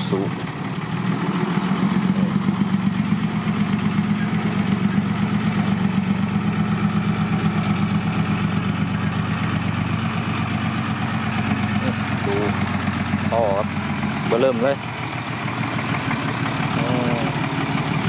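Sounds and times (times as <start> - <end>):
diesel truck engine throbbing: 0.0 - 18.0.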